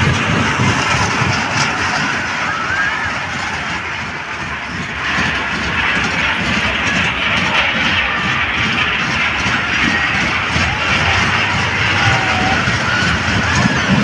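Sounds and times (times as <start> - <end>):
roller coaster cars rumbling: 0.0 - 14.0.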